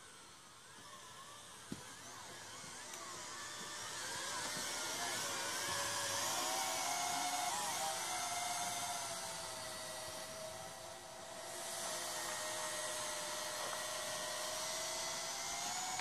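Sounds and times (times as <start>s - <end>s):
quadcopter propellers whining: 0.0s - 16.0s.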